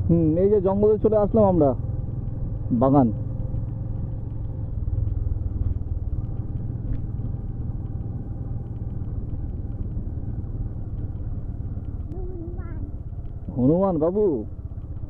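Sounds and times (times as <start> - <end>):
vehicle noise: 0.0 - 15.0
wind rumble: 0.0 - 15.0.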